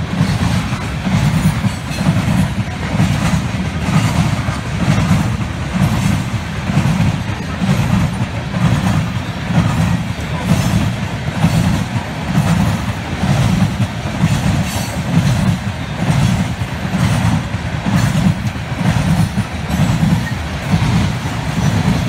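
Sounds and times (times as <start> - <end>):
train cars clicking and clanking: 0.0 - 22.0
train wheels rumbling on rail: 0.0 - 22.0.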